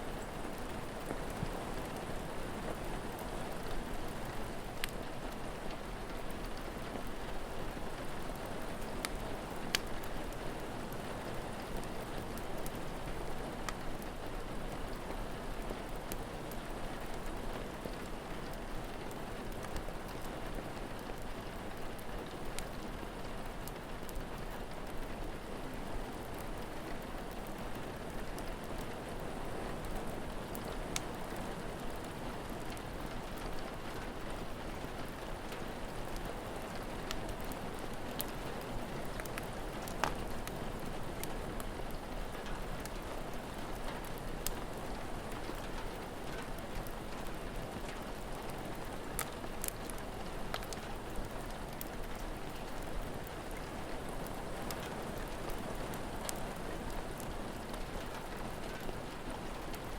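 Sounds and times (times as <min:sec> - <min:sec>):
steady rain: 0:00.0 - 0:59.9
wood fire crackling and popping: 0:00.1 - 0:59.9.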